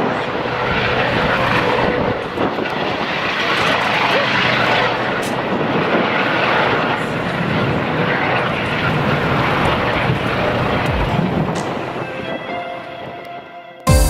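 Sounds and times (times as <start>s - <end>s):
jet engines rushing: 0.0s - 13.1s.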